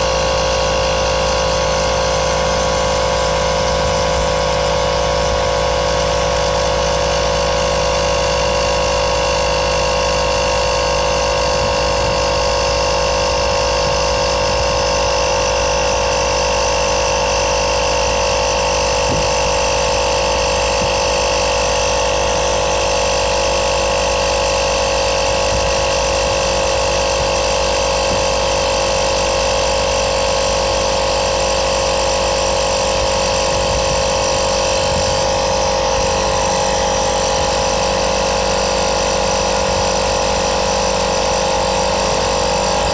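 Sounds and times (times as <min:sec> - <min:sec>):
small electric air compressor running: 0:00.0 - 0:42.9.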